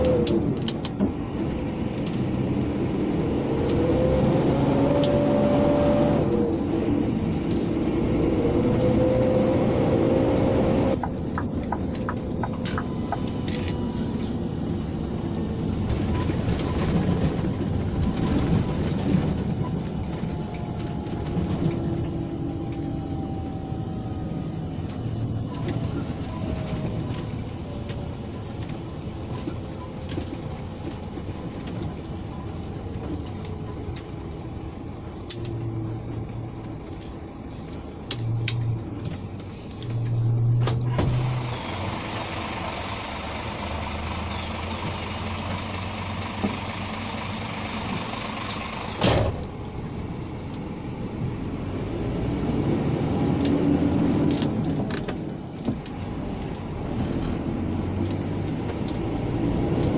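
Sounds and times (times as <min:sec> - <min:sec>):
truck engine from inside cab: 0:00.0 - 0:59.9.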